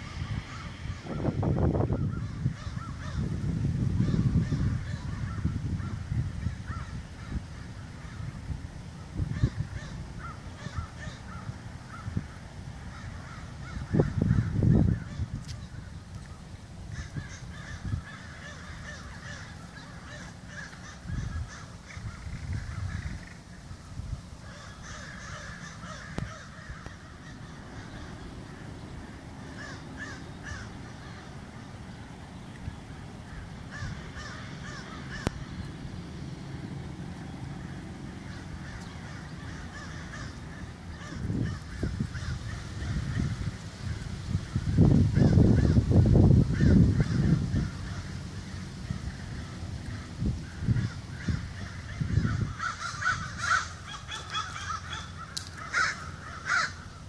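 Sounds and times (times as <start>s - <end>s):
low rumble on microphone: 0.0s - 55.3s
cranes calling: 0.0s - 57.0s.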